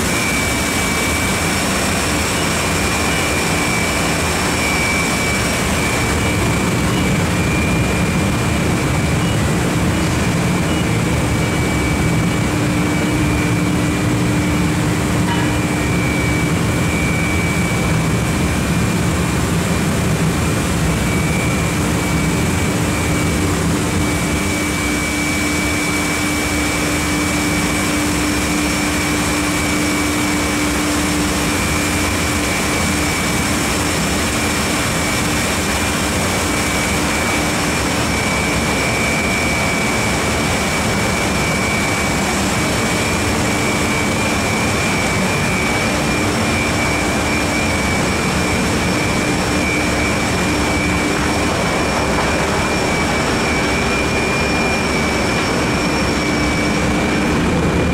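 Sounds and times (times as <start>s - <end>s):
high-pitched whine: 0.0s - 57.9s
loud machine noise: 0.0s - 57.9s.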